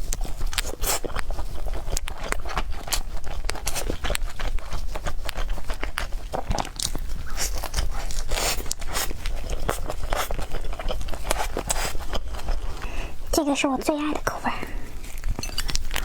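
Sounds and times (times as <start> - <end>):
chewing cake: 0.0 - 16.0.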